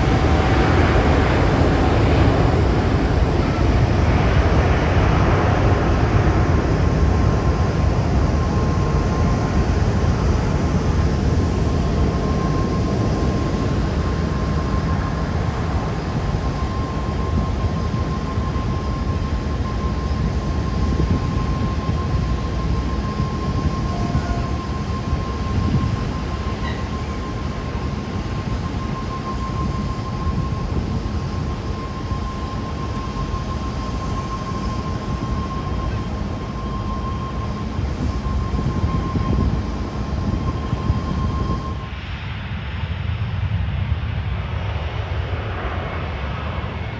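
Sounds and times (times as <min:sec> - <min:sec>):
high jet whine: 0:00.0 - 0:46.9
jet engine rumble: 0:00.0 - 0:46.9.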